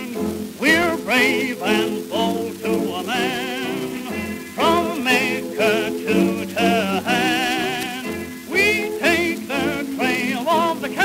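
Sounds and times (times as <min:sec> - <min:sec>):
record surface hiss: 0:00.0 - 0:11.0.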